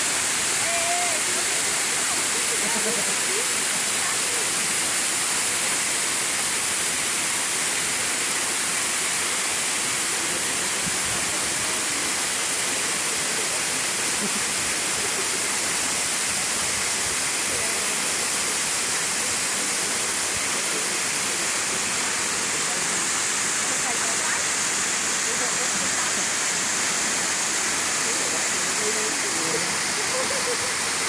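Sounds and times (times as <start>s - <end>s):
falling water rushing: 0.0s - 31.0s.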